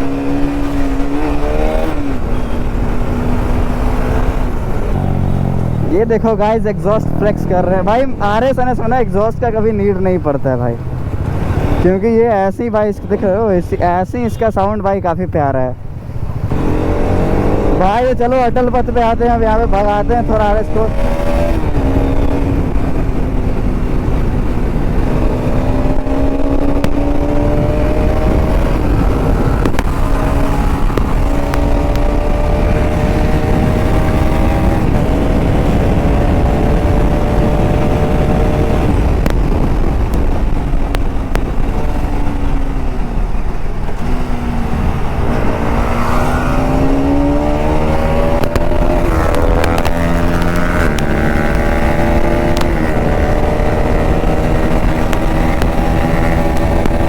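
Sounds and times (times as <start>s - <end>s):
motorcycle engine revving through gears: 0.0s - 9.0s, 10.8s - 11.9s, 15.9s - 57.0s.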